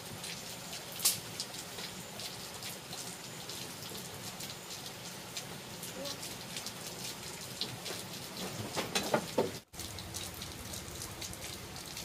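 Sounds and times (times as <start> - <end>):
drip-like ticks: 0.0 - 12.0
water pattering: 0.0 - 12.0.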